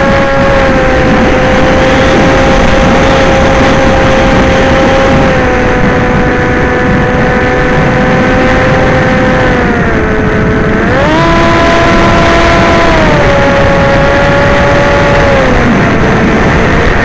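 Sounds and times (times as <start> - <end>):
electric motor whine: 0.0 - 17.0
wind rush: 0.0 - 17.0.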